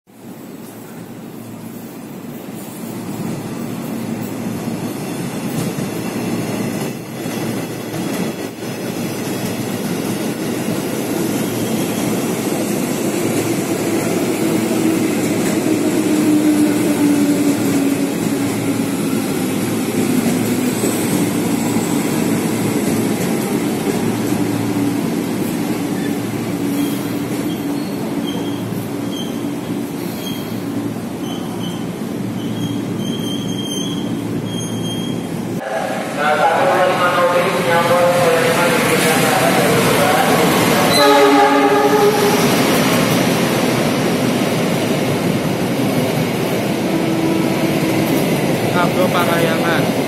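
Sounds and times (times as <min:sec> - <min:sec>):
electric train rumbling: 0:00.1 - 0:50.0.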